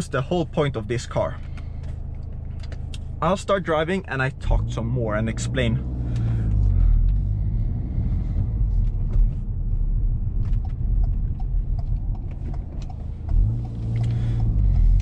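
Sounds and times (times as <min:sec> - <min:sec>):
car engine rumbling: 0:00.0 - 0:15.0
road noise: 0:00.0 - 0:15.0.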